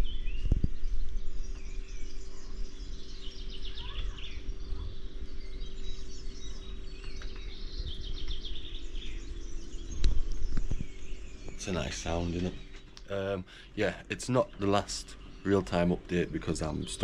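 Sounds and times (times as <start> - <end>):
songbirds singing and chirping: 0.0 - 17.0
steady low rumble: 0.0 - 17.0.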